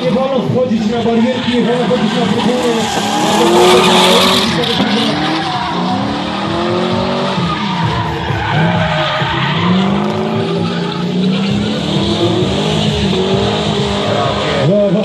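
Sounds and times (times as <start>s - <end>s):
car engine revving: 0.0s - 15.0s
tyres skidding and screeching: 0.0s - 15.0s.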